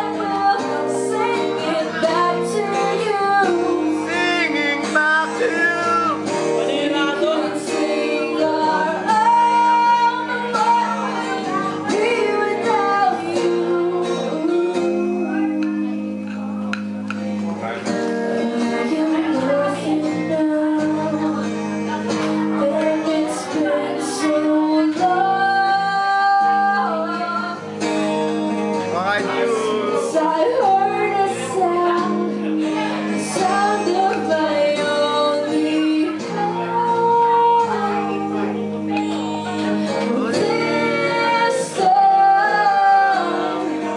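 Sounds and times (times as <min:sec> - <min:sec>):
woman singing into a microphone: 0:00.0 - 0:16.5, 0:18.0 - 0:43.9
guitar accompaniment: 0:00.0 - 0:43.9.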